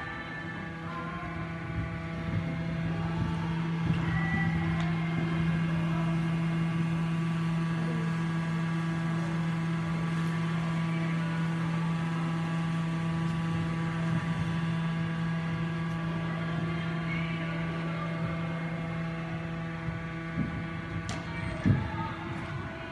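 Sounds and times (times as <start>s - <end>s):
steady machine hum: 0.0s - 22.9s.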